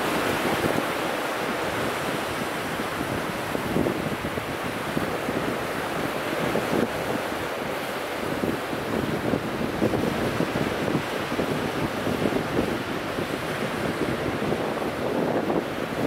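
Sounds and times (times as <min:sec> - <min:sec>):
strong wind: 0:00.0 - 0:16.0.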